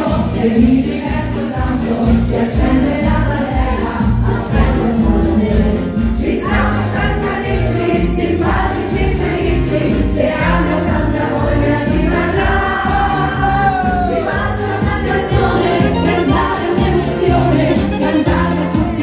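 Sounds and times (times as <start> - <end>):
loud dance music: 0.0 - 19.0
person singing: 0.0 - 19.0.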